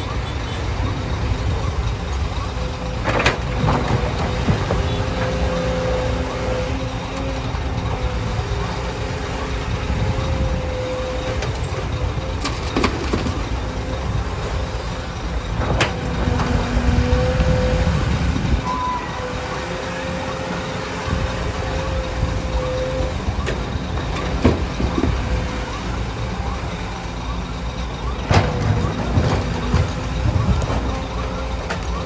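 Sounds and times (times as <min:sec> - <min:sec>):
heavy diesel engines rumbling: 0:00.0 - 0:32.0.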